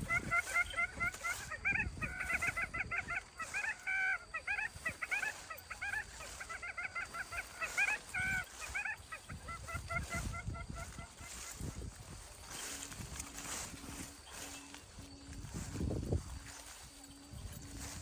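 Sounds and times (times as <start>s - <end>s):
dogs yipping and whining: 0.0s - 15.7s.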